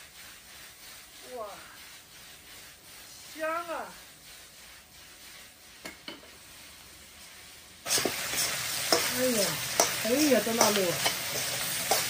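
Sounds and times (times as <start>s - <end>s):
food sizzling in a wok: 0.0s - 12.0s
metal spatula scraping a pan: 0.0s - 12.0s.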